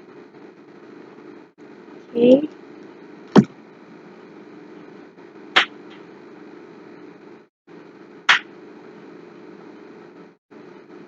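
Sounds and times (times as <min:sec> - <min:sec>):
microphone hiss and hum: 0:00.0 - 0:11.0.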